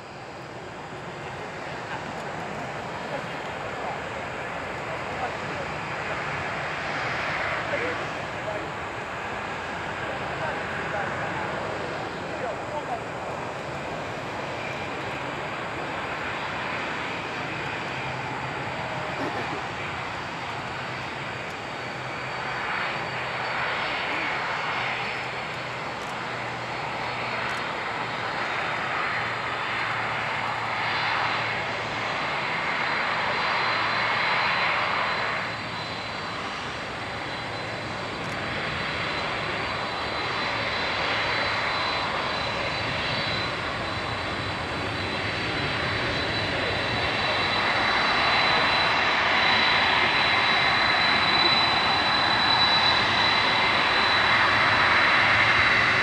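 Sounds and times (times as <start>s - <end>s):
jet engines taxiing: 0.0s - 56.0s.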